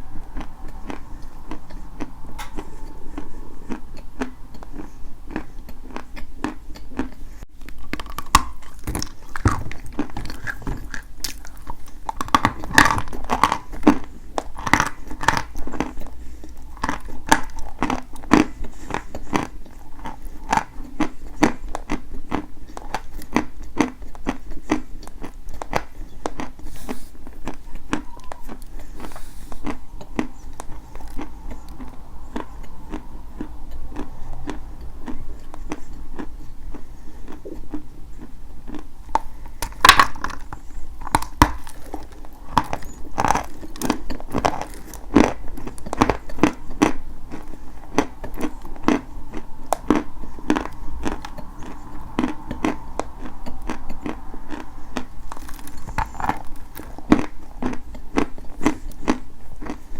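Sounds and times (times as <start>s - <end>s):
chalk being chewed: 0.0s - 59.9s.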